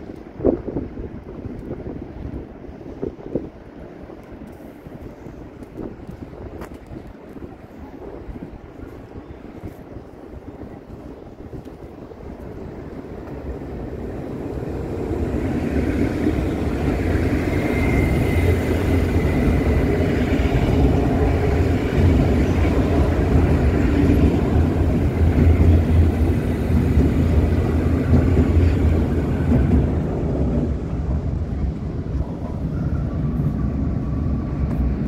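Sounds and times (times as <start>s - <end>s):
train rumbling over bridge: 0.0s - 35.0s.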